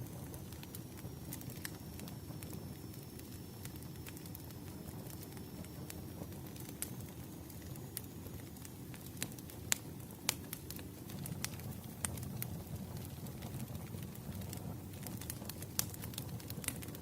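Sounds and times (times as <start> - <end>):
fire rumbling: 0.0 - 17.0
firewood crackling and popping: 0.0 - 17.0.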